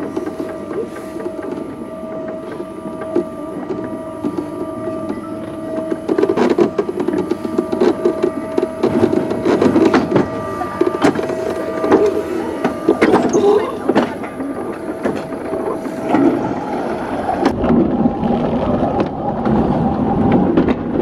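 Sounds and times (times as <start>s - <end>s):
sled rattling on steel track: 0.0s - 21.0s
steady whine: 0.0s - 21.0s.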